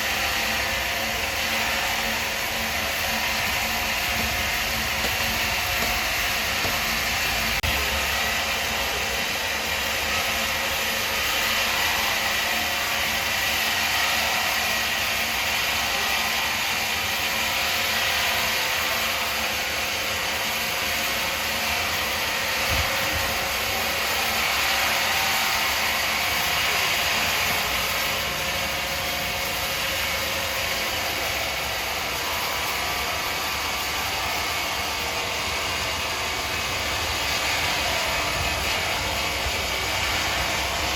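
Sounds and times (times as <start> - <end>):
machinery running with faint whine: 0.0 - 40.9.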